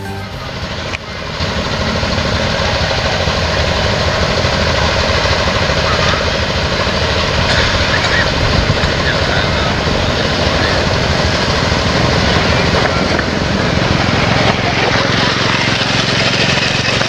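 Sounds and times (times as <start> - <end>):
diesel train engine rumble: 0.0 - 17.0.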